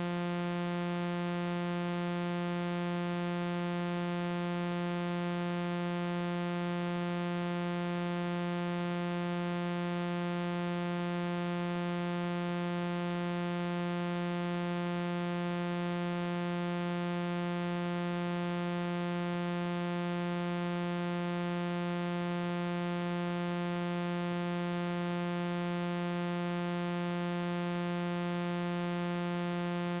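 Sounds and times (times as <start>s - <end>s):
low electronic buzz tone: 0.0s - 30.0s.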